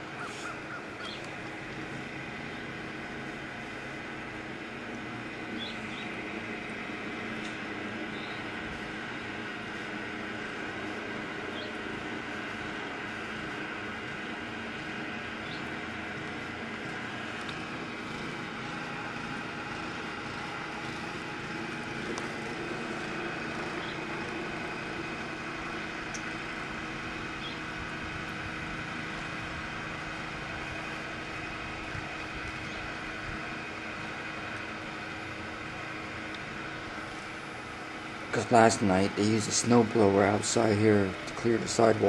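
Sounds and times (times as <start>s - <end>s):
background rumble and hiss: 0.0s - 42.0s
faint hum: 0.0s - 42.0s.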